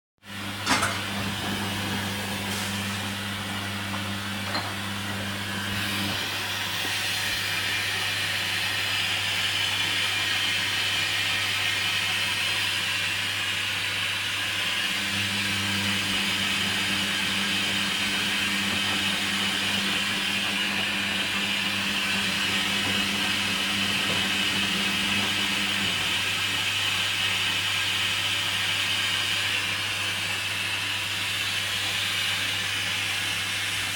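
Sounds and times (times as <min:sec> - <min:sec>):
water rushing into washing machine: 0:00.2 - 0:33.9.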